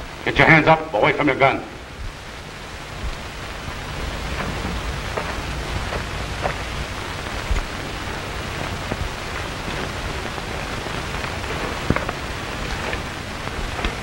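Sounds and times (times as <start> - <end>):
film soundtrack hiss and crackle: 0.0 - 14.0.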